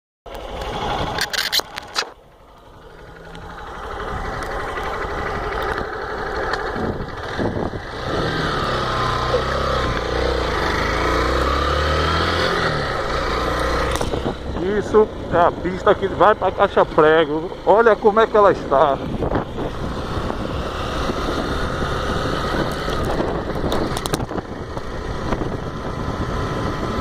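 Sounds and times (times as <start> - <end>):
dirt motorcycle engine running: 0.3 - 27.0.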